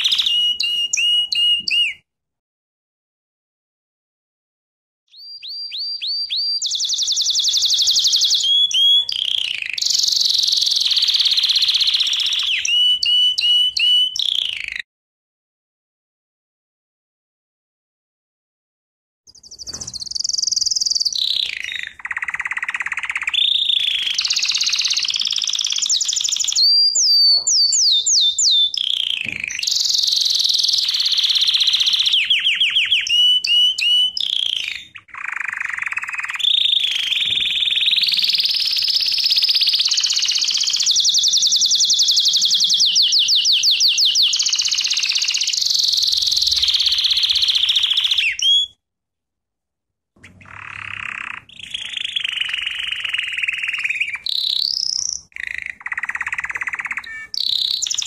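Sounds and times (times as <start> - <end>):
canary singing trills: 0.0 - 2.0, 5.1 - 14.8, 19.3 - 48.8, 50.2 - 58.0.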